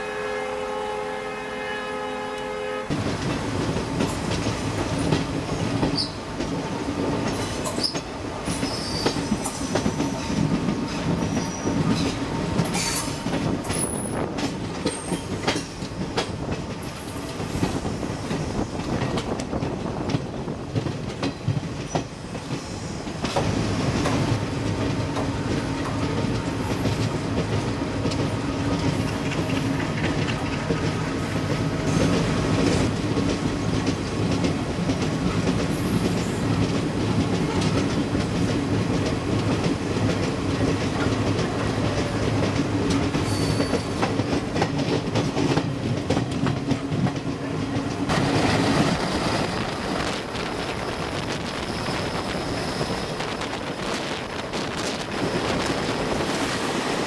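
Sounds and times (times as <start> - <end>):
train wheels rumbling on rails: 2.9 - 57.0.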